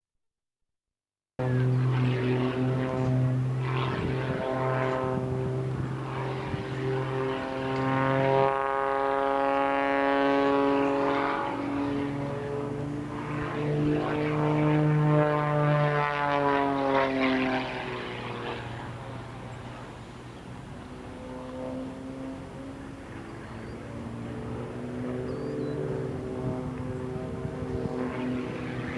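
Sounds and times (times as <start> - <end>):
propeller airplane flying by: 1.4 - 28.9.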